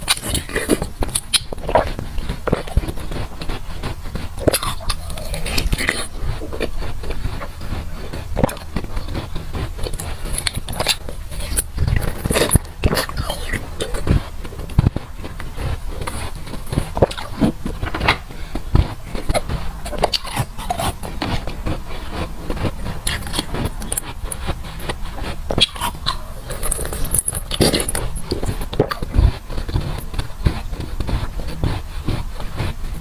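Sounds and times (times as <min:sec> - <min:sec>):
chewing crunchy ice: 0:00.0 - 0:33.0.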